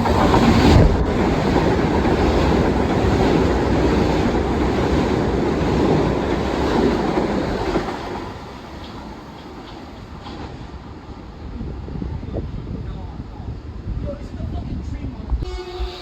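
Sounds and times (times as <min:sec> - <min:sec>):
train passing through station: 0:00.0 - 0:16.0.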